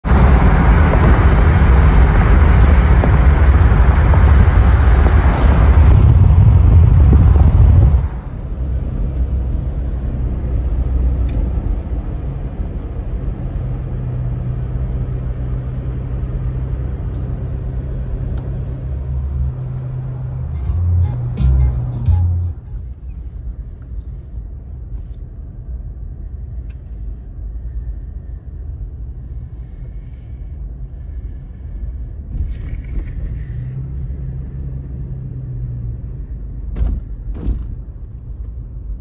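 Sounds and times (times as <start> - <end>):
road and wind rushing noise: 0.0 - 39.0
tyres and engine rumble: 0.0 - 39.0.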